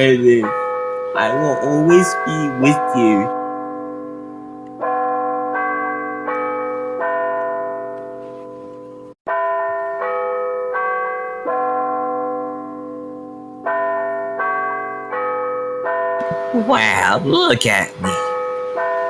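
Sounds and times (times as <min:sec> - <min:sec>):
slow bell chime melody: 0:00.0 - 0:16.6.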